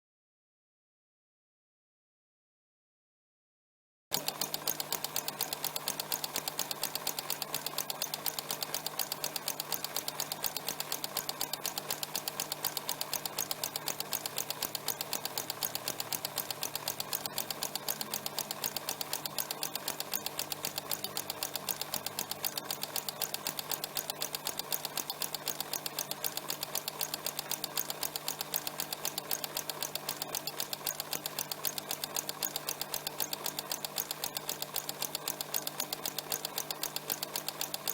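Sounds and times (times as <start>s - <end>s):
sewing machine running: 4.1s - 37.9s.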